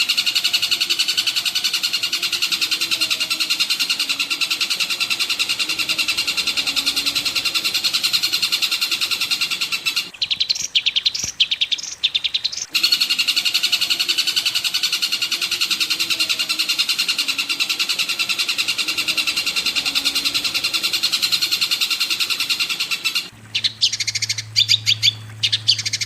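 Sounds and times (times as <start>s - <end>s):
fast high bird chirps: 0.0s - 26.0s.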